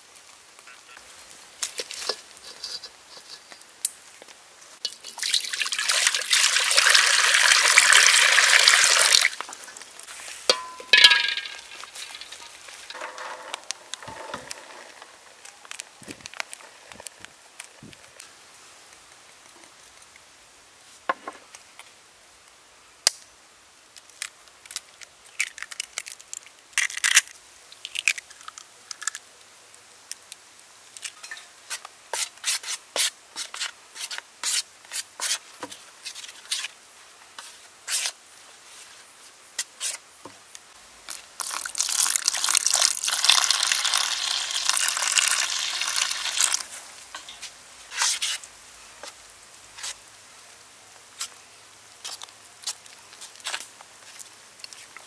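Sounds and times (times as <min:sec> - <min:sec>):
steady hiss: 0:00.0 - 0:25.4, 0:26.2 - 0:55.0.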